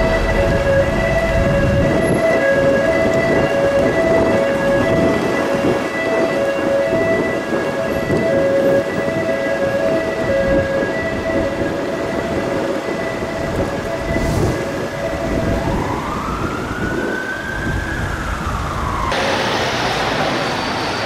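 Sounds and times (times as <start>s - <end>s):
busy street noise: 0.0s - 21.0s
police siren wailing: 0.0s - 21.0s
traffic rumble: 0.0s - 21.0s.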